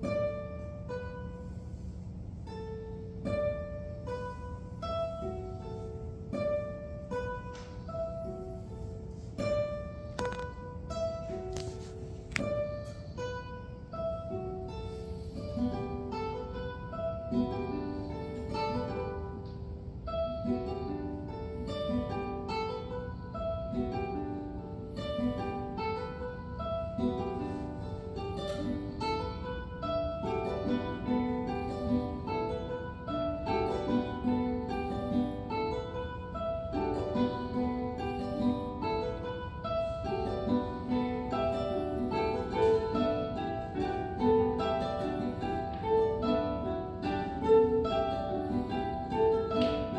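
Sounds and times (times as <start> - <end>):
classical guitars playing: 0.0 - 49.9.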